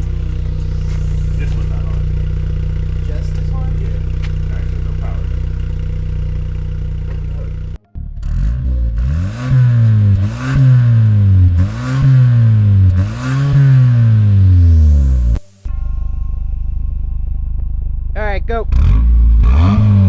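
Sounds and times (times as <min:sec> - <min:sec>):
car exhaust idling and revving: 0:00.0 - 0:20.0.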